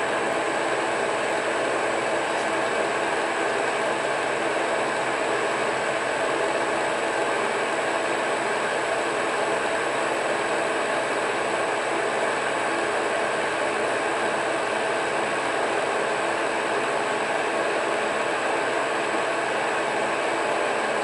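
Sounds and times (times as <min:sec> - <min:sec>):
metal lathe running: 0:00.0 - 0:21.0.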